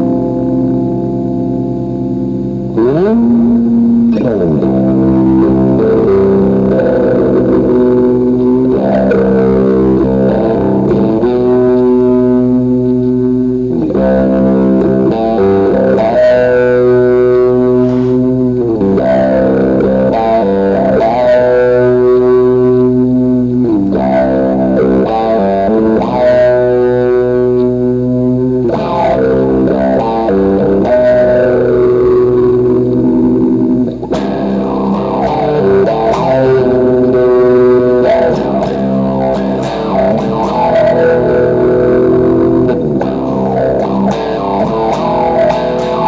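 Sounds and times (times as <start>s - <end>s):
distorted electric guitar rock music: 0.0s - 46.0s.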